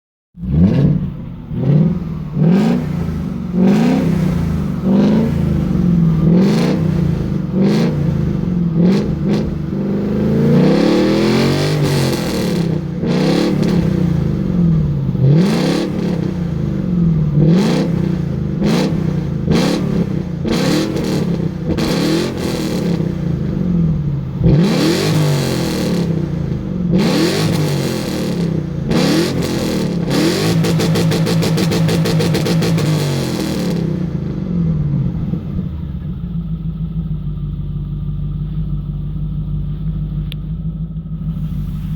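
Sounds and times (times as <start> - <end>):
car engine revving: 0.4 - 41.9.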